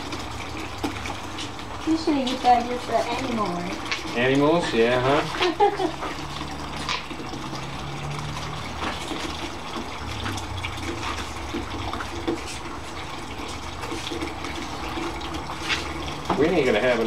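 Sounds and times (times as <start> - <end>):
juice pouring into container: 0.0 - 17.0.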